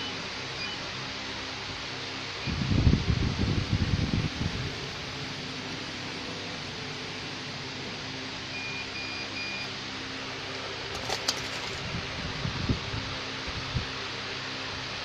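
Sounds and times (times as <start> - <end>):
laser cutter fan whir: 0.0 - 15.0.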